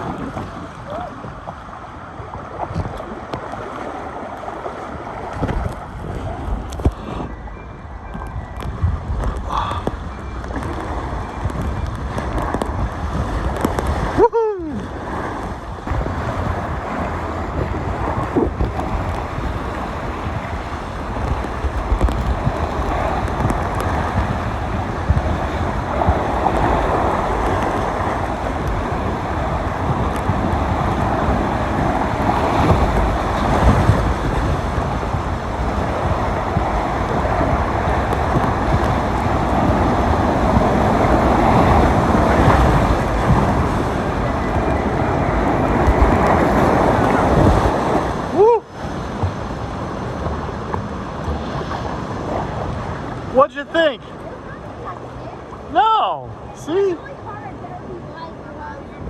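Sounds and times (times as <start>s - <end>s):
rushing water: 0.0s - 7.4s, 8.1s - 59.0s
wind buffeting microphone: 0.0s - 53.3s.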